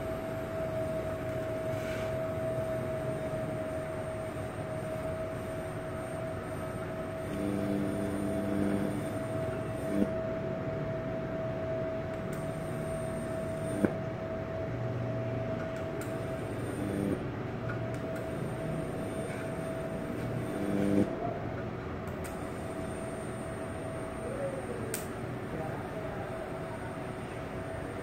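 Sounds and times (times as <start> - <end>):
welding hiss and whine: 0.0 - 21.2, 22.0 - 28.0.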